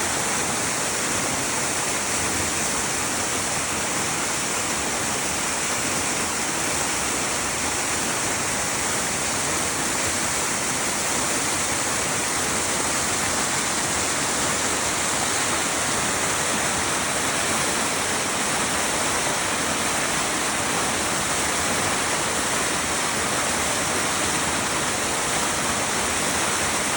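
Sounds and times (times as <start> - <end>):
waterfall splashing: 0.0 - 26.9.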